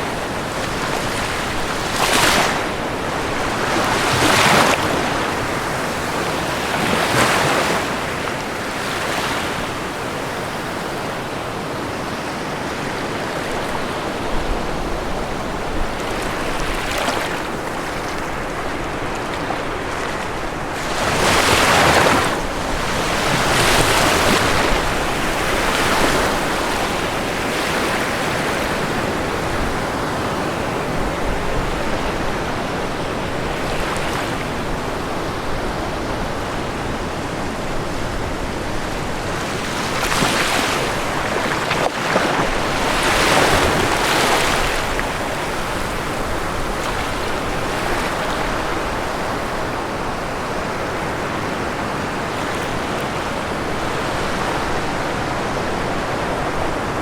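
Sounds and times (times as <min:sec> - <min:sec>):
ocean surf washing onto shore: 0:00.0 - 0:57.0.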